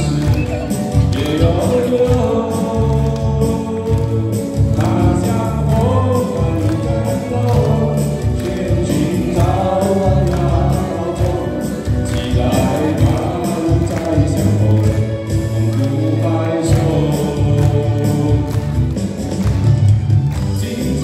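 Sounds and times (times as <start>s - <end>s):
man singing into a microphone: 0.0s - 19.0s, 20.4s - 21.0s
karaoke backing track with bass beat: 0.0s - 21.0s.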